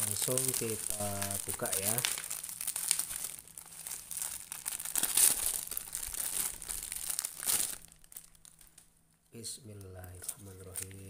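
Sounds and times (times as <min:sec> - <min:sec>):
plastic packaging crinkling: 0:00.0 - 0:09.0, 0:09.7 - 0:11.0.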